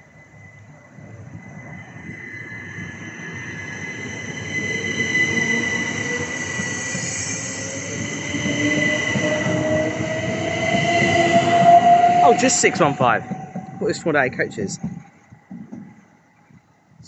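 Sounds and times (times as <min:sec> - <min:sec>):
electric train pulling out: 0:00.0 - 0:15.5
motor whine rising in pitch: 0:00.1 - 0:14.4.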